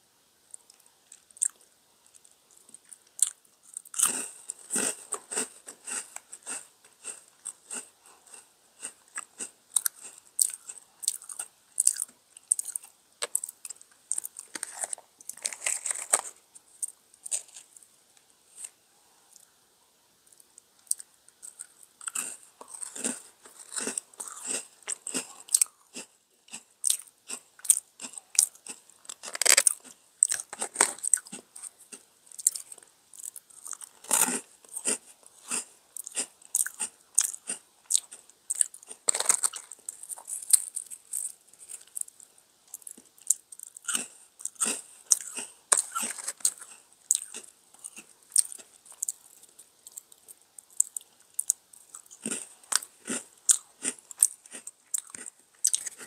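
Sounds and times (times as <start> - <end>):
crunching and chewing cookie: 0.4 - 19.6, 20.2 - 56.0.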